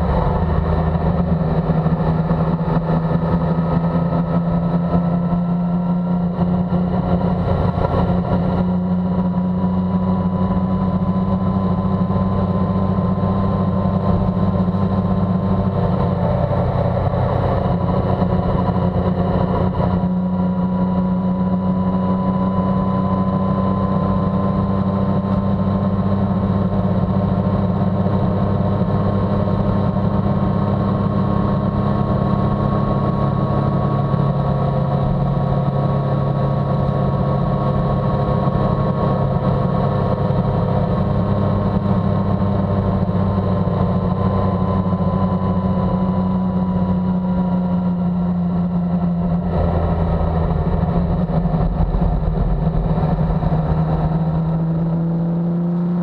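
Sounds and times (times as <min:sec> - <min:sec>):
motorcycle engine cruising: 0:00.0 - 0:56.0
road noise: 0:00.0 - 0:56.0.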